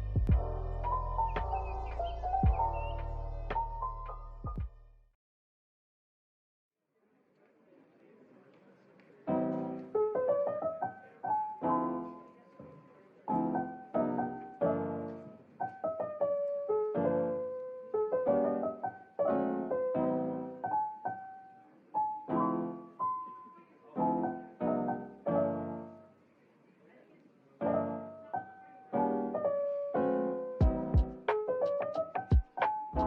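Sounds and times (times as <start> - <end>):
slow piano melody: 0.0 - 4.8, 9.3 - 26.2, 27.6 - 33.0.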